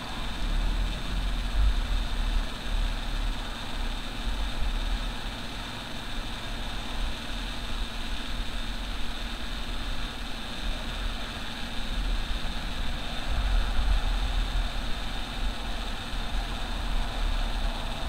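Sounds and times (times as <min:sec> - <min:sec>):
constant hiss: 0:00.0 - 0:18.0.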